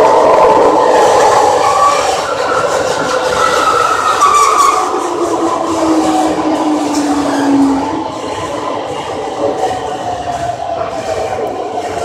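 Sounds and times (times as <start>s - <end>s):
subway train rumbling on rails: 0.0s - 12.0s.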